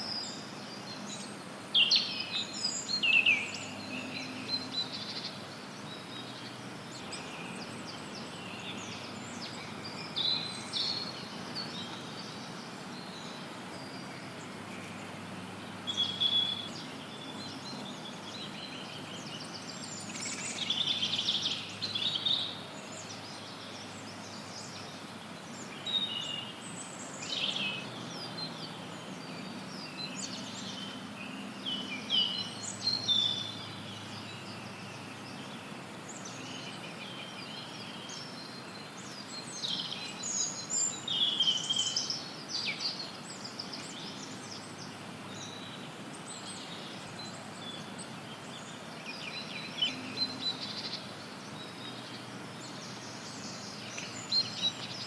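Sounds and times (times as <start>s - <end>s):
birds chirping and trilling: 0.0s - 55.0s
white noise hiss: 0.0s - 55.0s.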